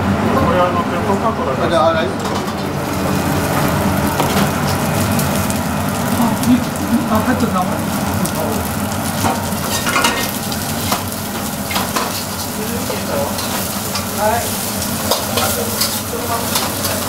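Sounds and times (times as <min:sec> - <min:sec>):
meat sizzling in hot oil: 0:02.7 - 0:17.0.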